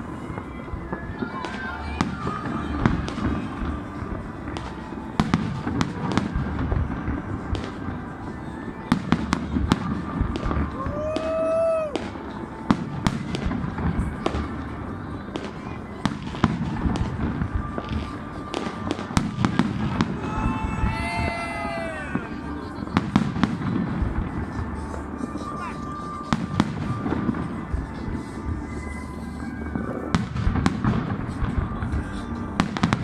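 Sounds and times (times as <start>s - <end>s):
fireworks bangs and crackles: 0.0s - 33.0s
whistling firework: 0.0s - 33.0s.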